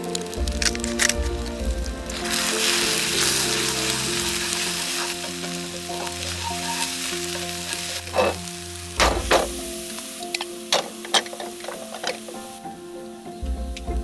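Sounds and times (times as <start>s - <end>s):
food sizzling in a pan: 0.0s - 13.4s
background music: 0.0s - 14.0s.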